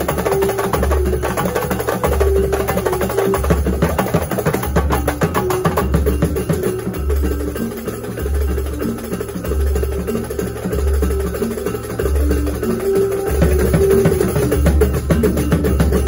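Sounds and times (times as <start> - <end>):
frame drums and barrel drums: 0.0 - 16.0.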